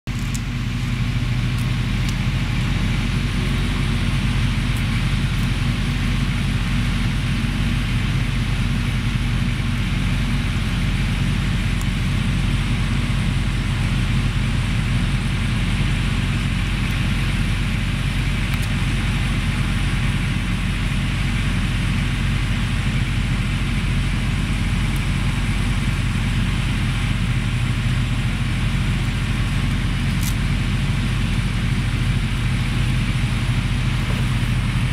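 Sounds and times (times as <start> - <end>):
low mechanical hum with hiss: 0.1 - 34.9.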